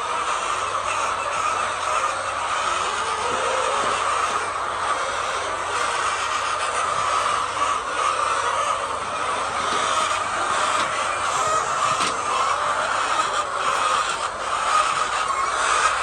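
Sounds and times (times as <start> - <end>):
flock of chickens: 0.0 - 16.0.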